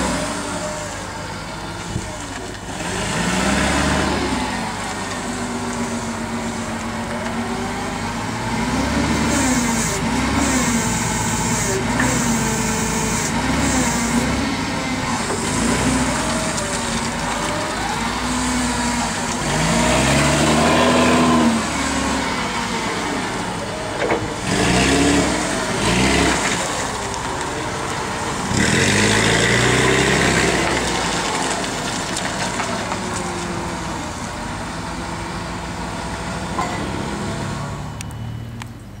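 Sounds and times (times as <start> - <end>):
forklift engine revving: 0.0 - 38.6.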